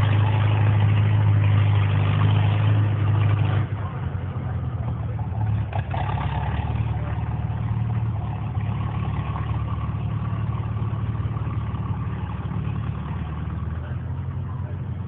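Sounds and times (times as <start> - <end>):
tractor engine droning under load: 0.0 - 15.0.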